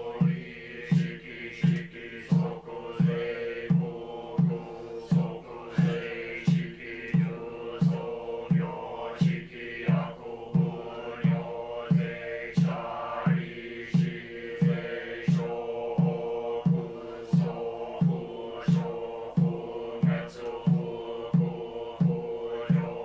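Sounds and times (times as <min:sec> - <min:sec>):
monotone chanting: 0:00.0 - 0:23.0.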